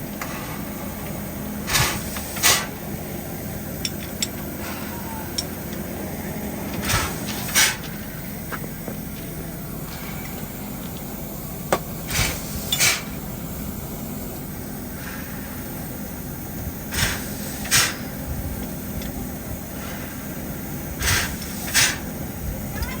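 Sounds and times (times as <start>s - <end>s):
steady low hum: 0.0s - 23.0s
steam locomotive hissing: 0.0s - 23.0s.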